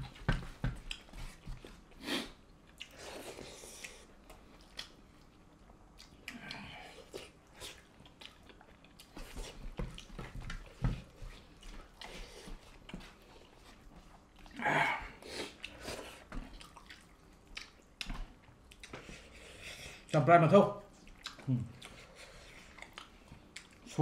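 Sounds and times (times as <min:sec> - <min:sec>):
wet chewing and lip-smacking: 0:00.8 - 0:01.9, 0:02.5 - 0:14.6, 0:15.2 - 0:19.4, 0:20.9 - 0:24.0.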